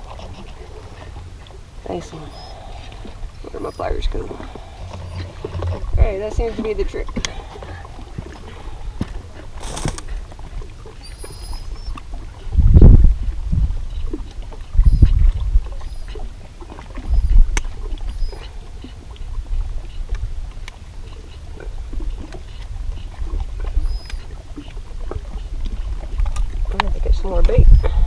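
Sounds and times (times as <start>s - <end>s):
small waves sloshing against rocks: 0.0s - 28.0s.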